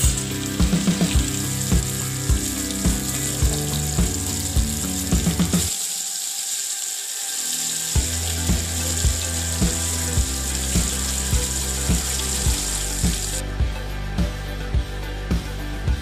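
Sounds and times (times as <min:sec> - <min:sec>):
background music with steady beat: 0:00.0 - 0:06.0, 0:07.3 - 0:16.0
fish sizzling in oil: 0:00.0 - 0:13.4.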